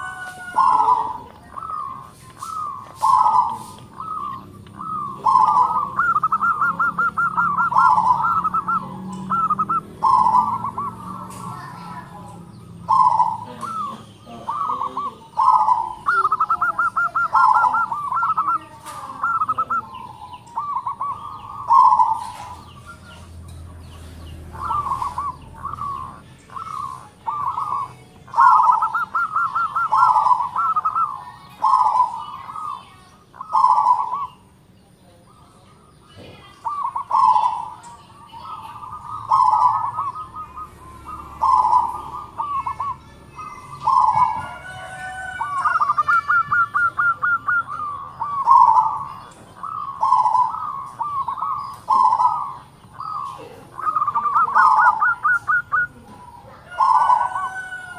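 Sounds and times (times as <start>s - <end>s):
dove cooing: 0.0s - 34.7s, 35.9s - 57.9s.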